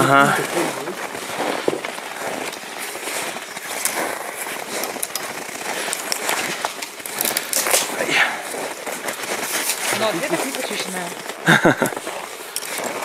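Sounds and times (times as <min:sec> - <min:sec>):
branches scraping jackets: 0:00.0 - 0:13.0
footsteps crunching in snow: 0:00.0 - 0:13.0.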